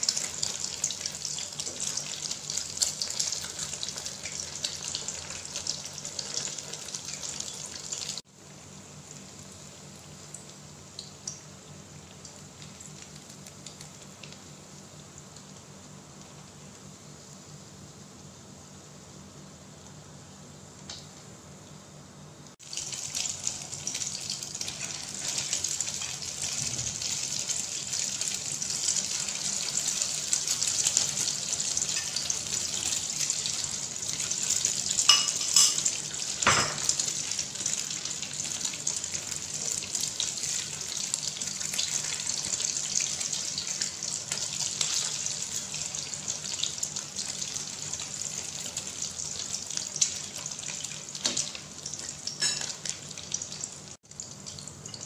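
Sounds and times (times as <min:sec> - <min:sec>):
meat sizzling in hot oil: 0:00.0 - 0:17.3, 0:22.6 - 0:55.0.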